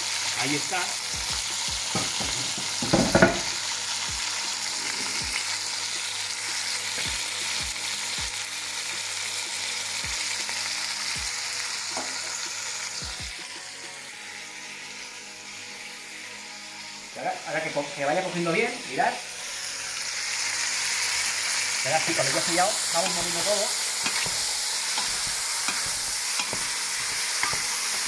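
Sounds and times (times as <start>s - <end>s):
meat and peppers sizzling in pot: 0.0s - 28.0s.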